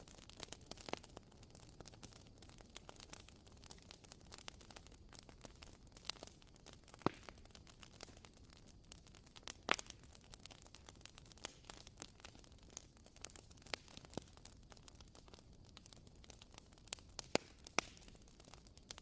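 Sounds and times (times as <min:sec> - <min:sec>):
wooden candle wick crackling: 0:00.0 - 0:19.0.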